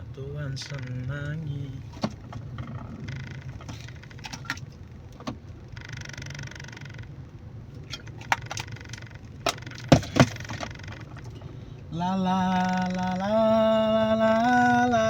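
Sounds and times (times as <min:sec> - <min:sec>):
car engine hum: 0:00.0 - 0:15.0
steady high buzz: 0:00.0 - 0:15.0.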